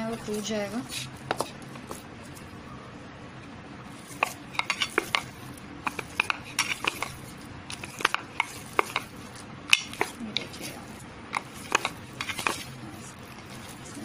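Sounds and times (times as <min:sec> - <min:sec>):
hand kneading on steel plate: 0:00.0 - 0:02.5, 0:03.9 - 0:14.0.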